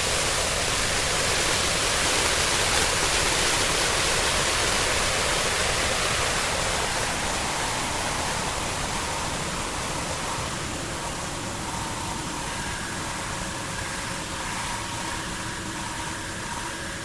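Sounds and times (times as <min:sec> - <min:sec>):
faint steady tone: 0:00.0 - 0:17.0.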